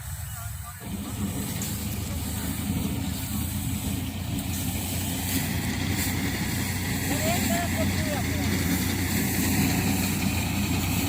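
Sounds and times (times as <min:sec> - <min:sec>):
harvester engine humming: 0:00.0 - 0:11.0.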